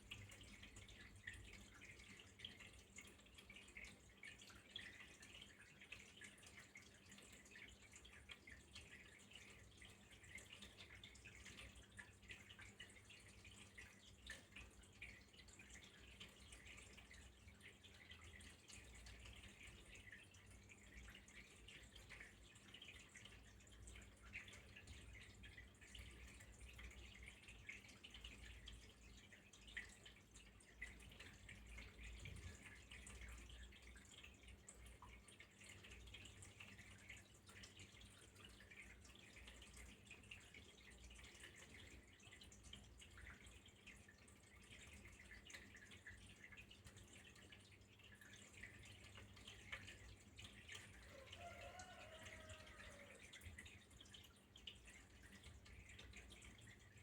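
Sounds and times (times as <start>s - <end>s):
faint trickle of water: 0.0s - 57.0s.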